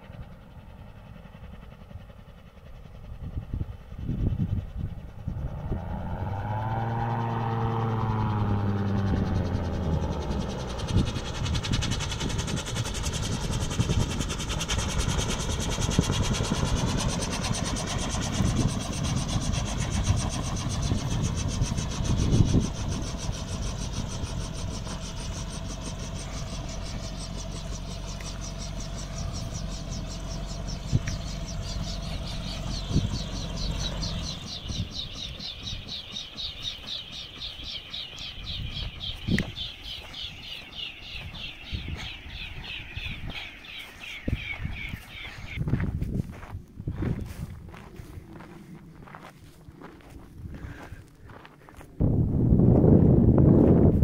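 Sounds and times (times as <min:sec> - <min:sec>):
gyrocopter engine running: 0:00.0 - 0:54.0
rotor blades swishing: 0:05.3 - 0:50.5.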